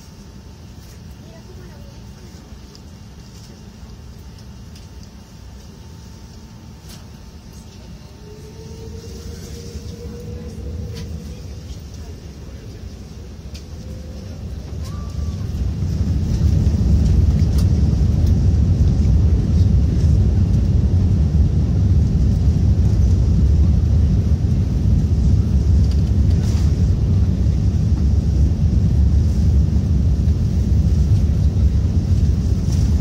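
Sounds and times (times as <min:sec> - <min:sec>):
jet engines at takeoff power: 0:00.0 - 0:33.0
wheels rumbling on runway: 0:06.4 - 0:33.0.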